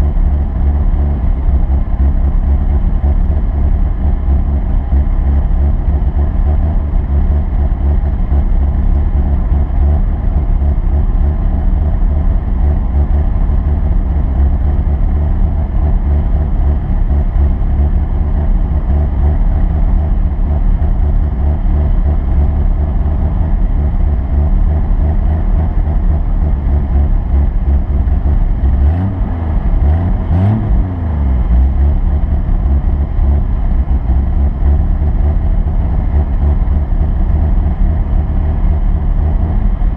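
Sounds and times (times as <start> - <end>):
vehicle engine rumbling and revving: 0.0 - 39.9.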